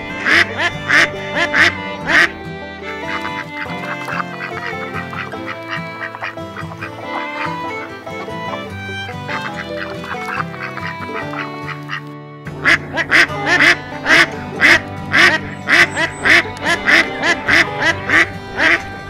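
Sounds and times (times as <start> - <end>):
background music: 0.0 - 19.0
duck quacking: 0.0 - 19.0.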